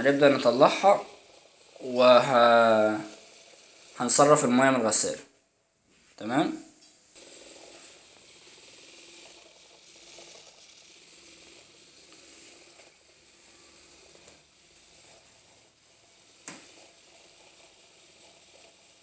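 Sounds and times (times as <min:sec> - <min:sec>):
toy washing machine motor: 0:00.0 - 0:05.2, 0:06.2 - 0:19.0.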